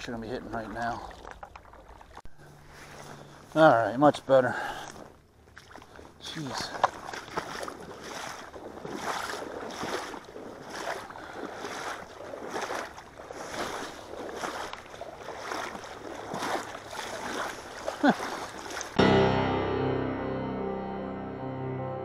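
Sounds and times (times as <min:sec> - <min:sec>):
water sloshing around wading legs: 0:00.0 - 0:03.6, 0:04.2 - 0:19.0.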